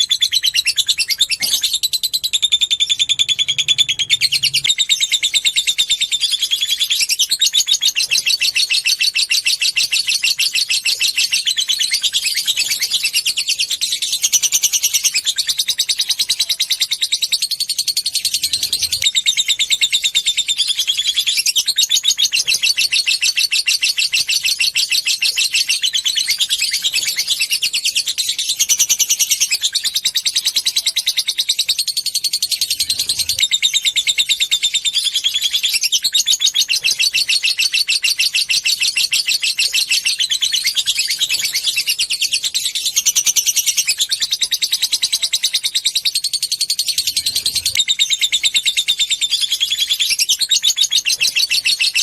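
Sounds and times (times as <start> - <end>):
lovebird chattering song: 0.0 - 52.0.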